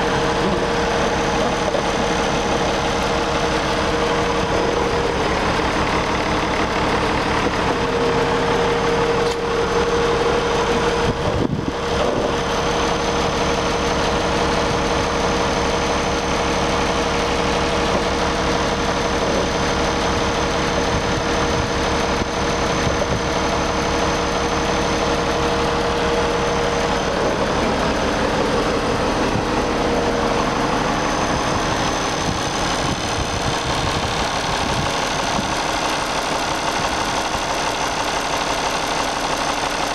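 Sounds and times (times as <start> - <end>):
steady whine: 0.0 - 39.9
tractor diesel engine idling: 0.0 - 39.9.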